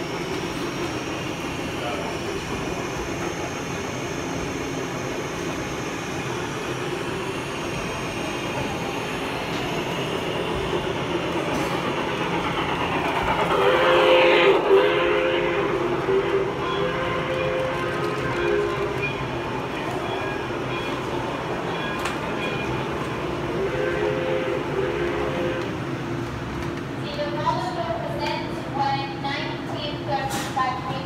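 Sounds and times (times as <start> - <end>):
multi-tone train signal: 0.0 - 26.0
model train rumbling: 0.0 - 31.0.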